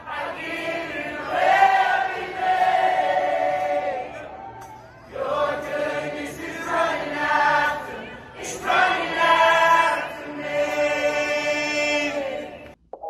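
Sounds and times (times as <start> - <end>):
group singing worship song: 0.0 - 4.3, 5.1 - 12.7.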